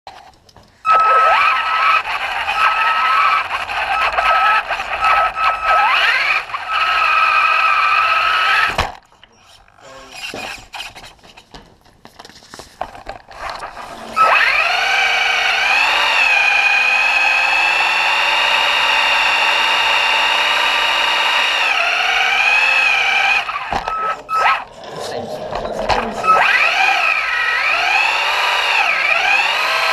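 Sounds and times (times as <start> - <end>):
toy truck motor whining: 0.9 - 11.1, 13.3 - 24.8, 25.8 - 29.9.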